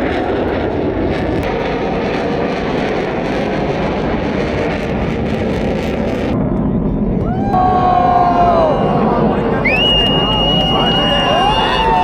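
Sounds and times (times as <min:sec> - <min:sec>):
aircraft engine flying by: 0:00.0 - 0:12.0.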